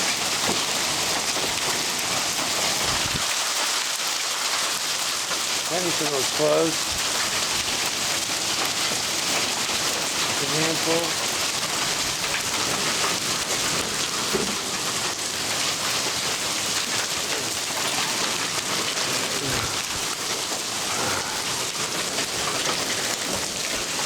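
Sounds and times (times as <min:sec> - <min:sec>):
heavy rain with hail: 0:00.0 - 0:24.0.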